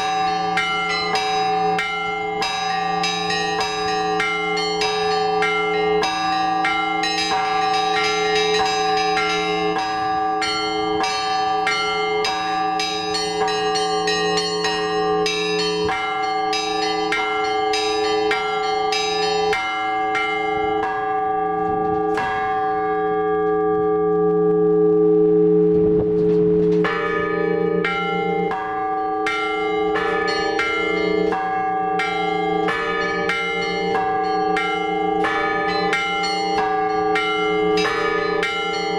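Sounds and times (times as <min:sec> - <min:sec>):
large church bells ringing: 0:00.0 - 0:38.9
small church bells striking: 0:00.0 - 0:38.9.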